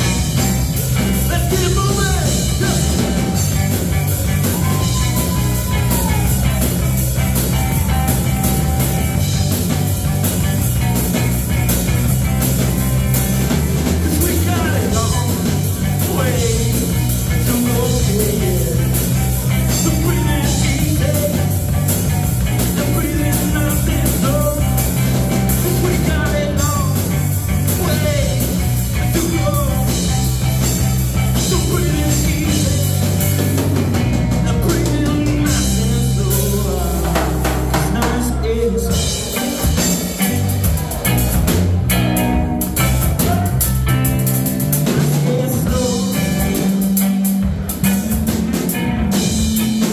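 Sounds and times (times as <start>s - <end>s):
live rock band playing: 0.0s - 49.9s.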